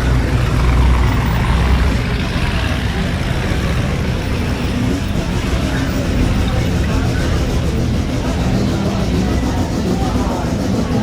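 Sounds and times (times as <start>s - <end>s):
car engines rumbling past: 0.0s - 11.0s.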